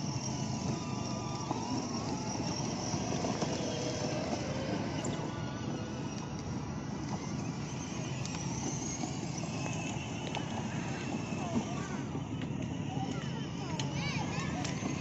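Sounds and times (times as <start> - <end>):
plastic wheels on stone paving: 0.0 - 15.0
toy car motor rumble: 0.0 - 15.0.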